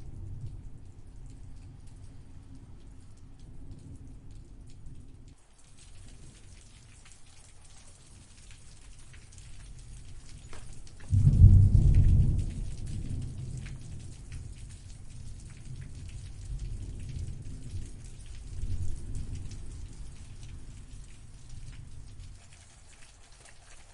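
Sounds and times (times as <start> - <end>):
thunder clap and rumble: 0.0 - 6.6, 8.6 - 22.5
rain patter: 0.0 - 23.9.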